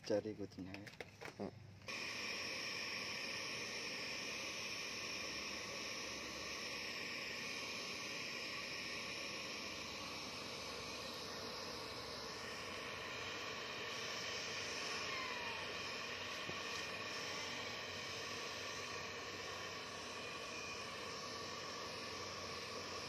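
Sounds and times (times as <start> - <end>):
steady whirring hiss: 0.0 - 23.0.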